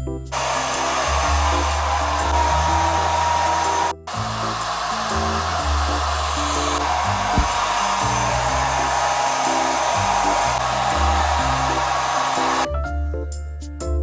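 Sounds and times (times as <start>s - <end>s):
hair dryer running: 0.4s - 12.7s
background music with bass line: 1.2s - 14.0s.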